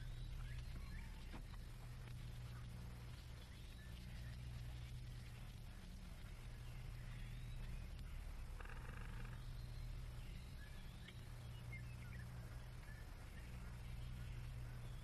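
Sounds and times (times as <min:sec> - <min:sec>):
bird chirps: 0:00.0 - 0:05.5, 0:06.2 - 0:15.0
steady low hum: 0:00.0 - 0:15.0.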